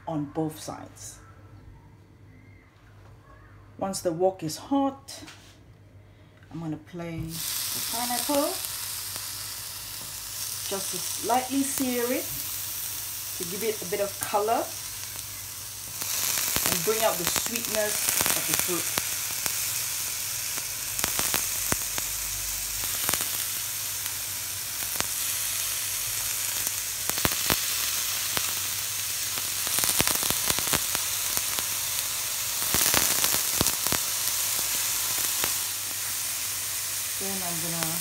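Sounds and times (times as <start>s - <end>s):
sizzle with pops and crackles: 7.1s - 38.0s.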